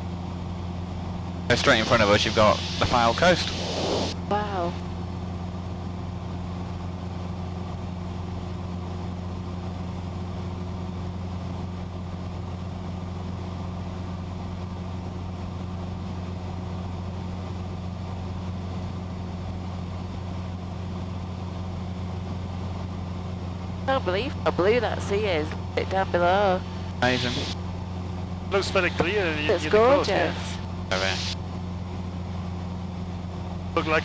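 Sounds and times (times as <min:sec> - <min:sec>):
airplane engine droning in cabin: 0:00.0 - 0:34.0.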